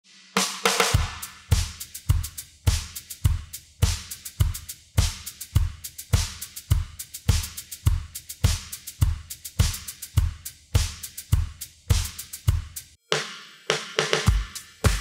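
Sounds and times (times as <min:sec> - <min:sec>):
music with drum-kit beat: 0:00.0 - 0:15.0.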